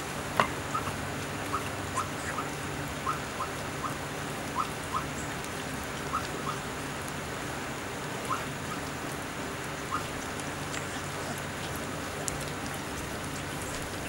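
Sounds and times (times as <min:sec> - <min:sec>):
puppies lapping and chewing: 0:00.1 - 0:14.0.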